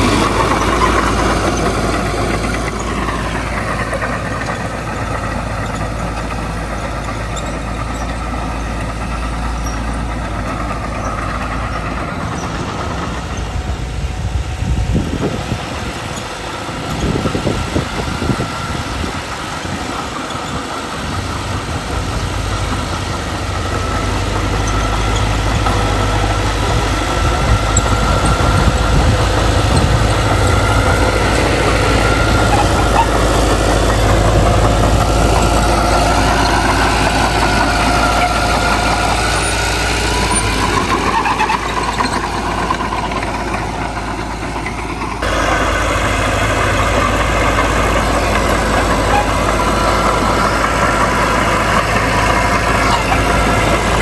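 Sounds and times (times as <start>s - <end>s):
diesel engine drone: 0.0s - 54.0s
irregular rumbling: 0.0s - 54.0s.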